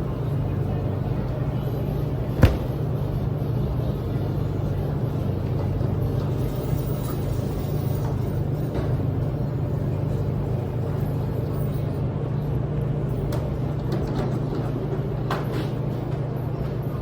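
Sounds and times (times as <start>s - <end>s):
washers and dryers humming: 0.0s - 17.0s.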